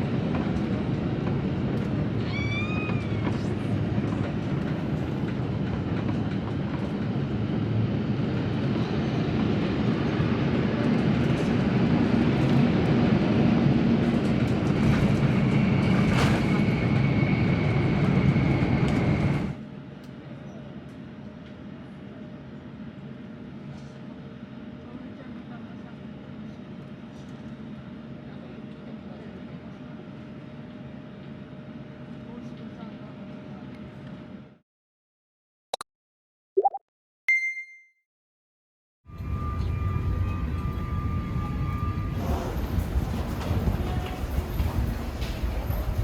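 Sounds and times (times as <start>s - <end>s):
jet engine and airflow rumble: 0.0s - 34.6s, 39.2s - 46.0s.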